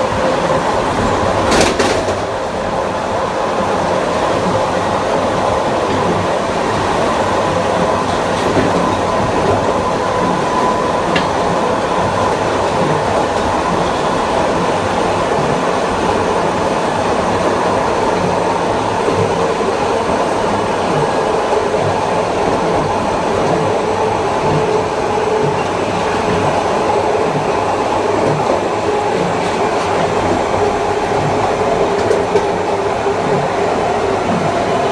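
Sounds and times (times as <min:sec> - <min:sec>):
train wheel and rail rumble: 0:00.0 - 0:34.9.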